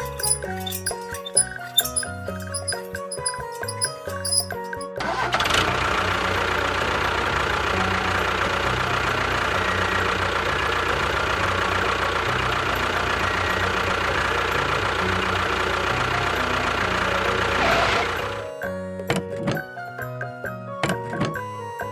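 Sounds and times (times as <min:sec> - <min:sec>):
small motor whining: 0:00.0 - 0:19.7.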